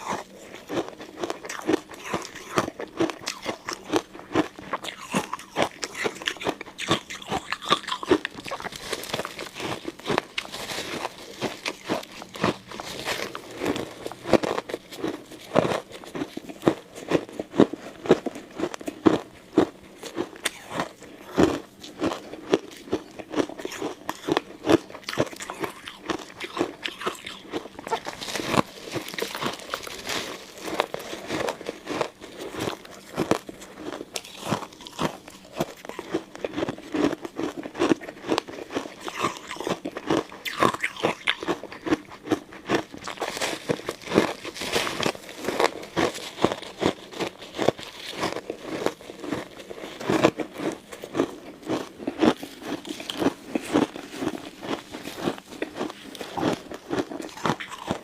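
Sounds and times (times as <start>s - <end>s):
ice cubes crunching: 0.0s - 58.0s.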